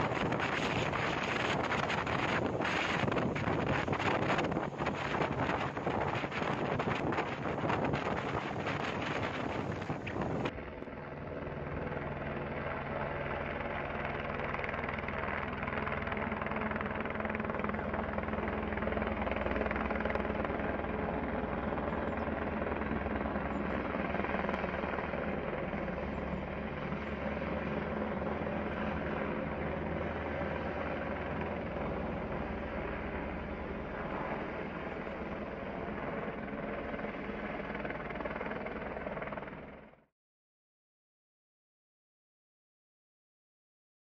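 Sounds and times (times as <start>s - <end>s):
distant helicopter flying by: 0.0s - 40.1s.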